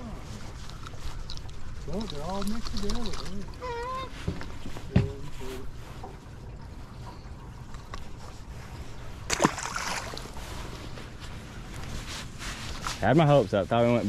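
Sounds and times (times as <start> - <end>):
water noise around boat: 0.0 - 14.0.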